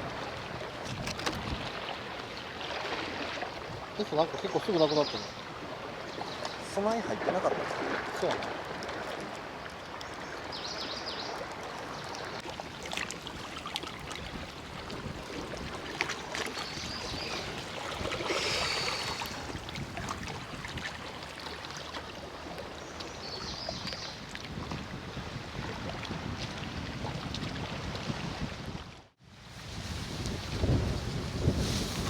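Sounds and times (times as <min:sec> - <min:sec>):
sea water lapping at shoreline: 0:00.0 - 0:32.0.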